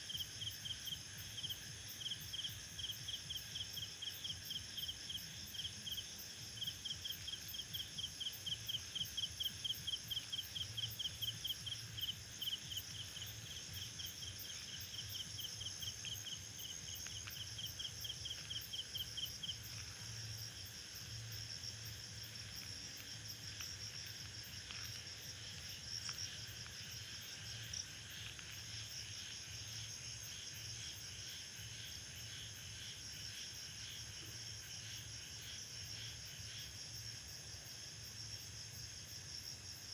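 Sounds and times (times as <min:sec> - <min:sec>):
crickets and insects trilling: 0:00.0 - 0:39.9
loud chirping insect: 0:00.0 - 0:39.9.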